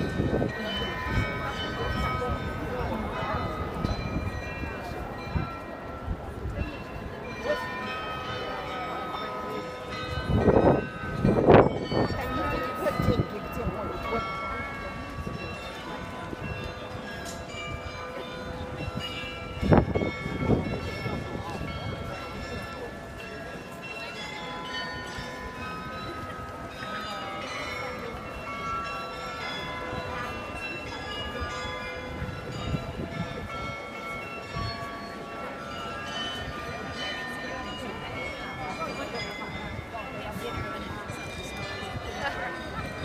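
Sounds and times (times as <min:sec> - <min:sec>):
crowd murmur: 0:00.0 - 0:43.0
tuned bells playing a tune: 0:00.0 - 0:43.0.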